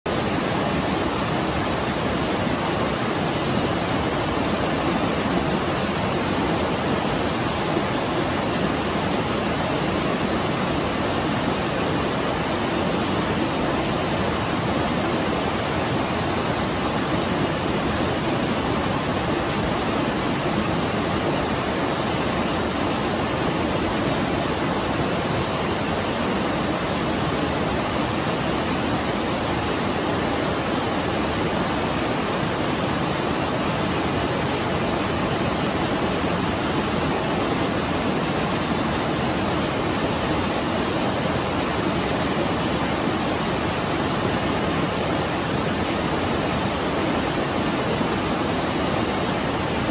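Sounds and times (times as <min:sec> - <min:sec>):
waterfall rushing: 0:00.1 - 0:49.9.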